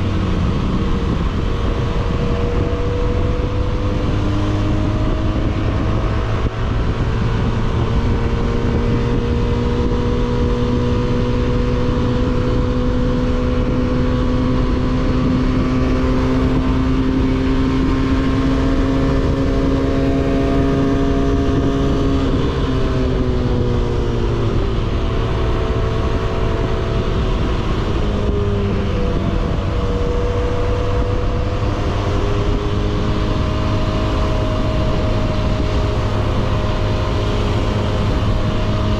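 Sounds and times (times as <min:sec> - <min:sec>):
motorcycle engine riding: 0:00.0 - 0:38.9.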